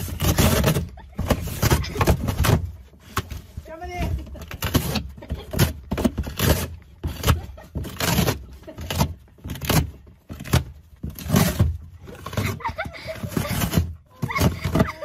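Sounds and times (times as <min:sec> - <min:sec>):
cardboard box being torn: 0:00.0 - 0:02.8, 0:04.3 - 0:15.0.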